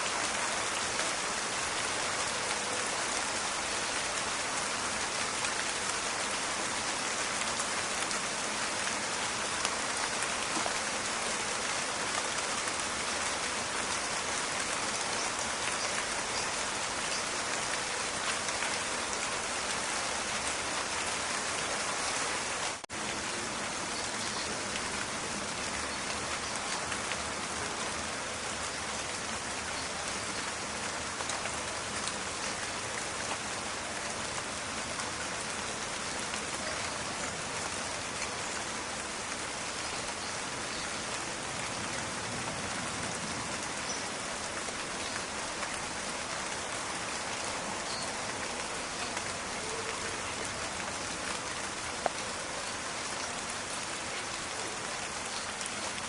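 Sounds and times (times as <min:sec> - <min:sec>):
raindrops pattering in forest: 0:00.0 - 0:56.0.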